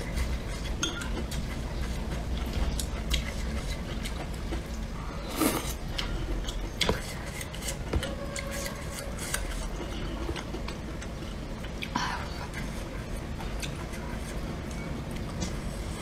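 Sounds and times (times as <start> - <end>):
chewing: 0.0 - 15.7.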